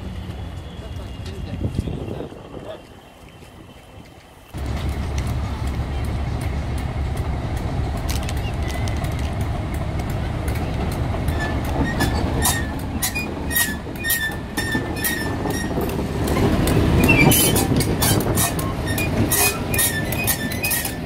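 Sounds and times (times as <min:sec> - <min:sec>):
diesel locomotive engine running: 0:00.0 - 0:21.0
wheels clicking on rails: 0:00.0 - 0:21.0
wheels squealing on rails: 0:00.0 - 0:21.0.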